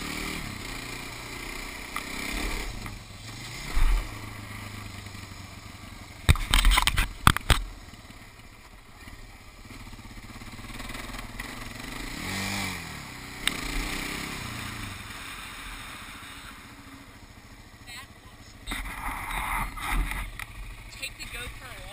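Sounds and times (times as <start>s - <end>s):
atv engine running: 0.0s - 21.9s.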